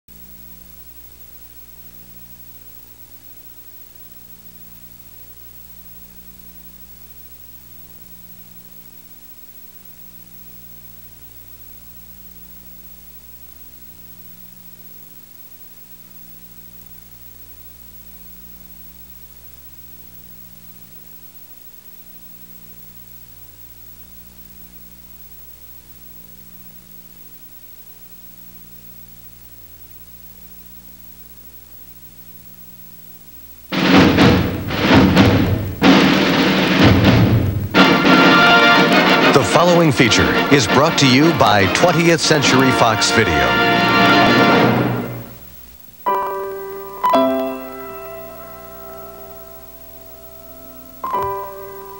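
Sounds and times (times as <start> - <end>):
electrical mains hum: 0.0 - 51.9
tape hiss: 0.0 - 51.9.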